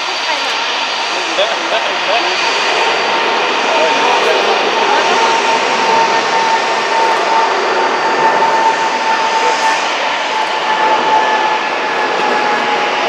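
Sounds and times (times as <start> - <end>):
jet engine whine: 0.0 - 13.0
jet engines rushing: 0.0 - 13.0.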